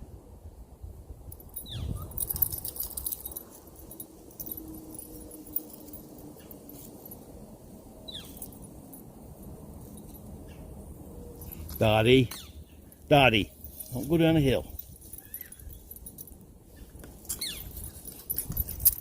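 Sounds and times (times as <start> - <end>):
dog tags jingling: 1.3 - 19.0.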